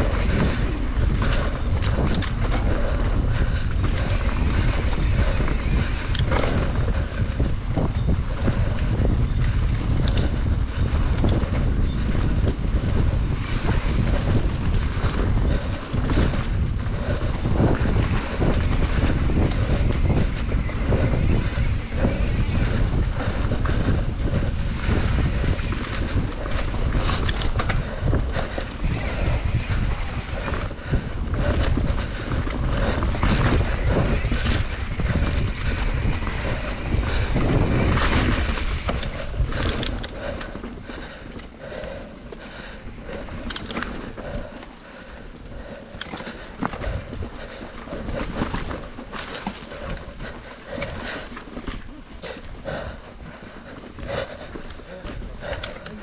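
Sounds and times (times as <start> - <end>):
bike rattling clicks and knocks: 0.0 - 56.0
bike tyre rumble: 0.0 - 56.0
wind buffeting microphone: 0.0 - 56.0.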